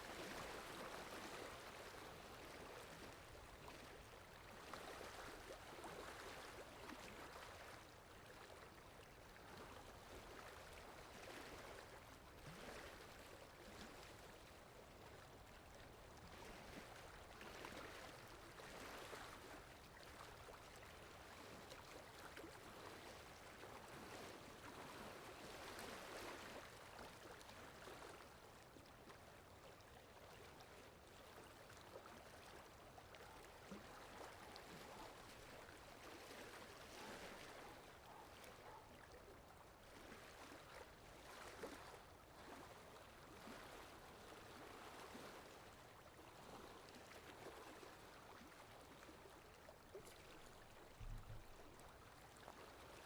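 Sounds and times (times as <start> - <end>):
faint running water: 0.0 - 53.0.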